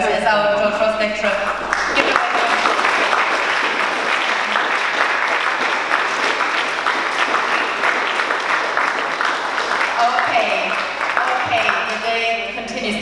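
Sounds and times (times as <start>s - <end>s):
audience applauding: 1.4s - 12.2s.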